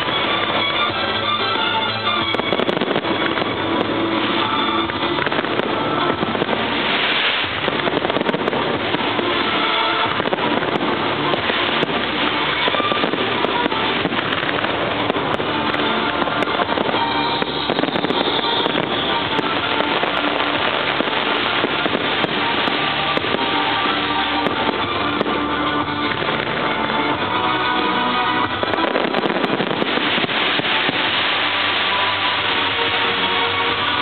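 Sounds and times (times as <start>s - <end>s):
fireworks bursting and crackling: 0.0s - 34.0s
music: 0.0s - 34.0s.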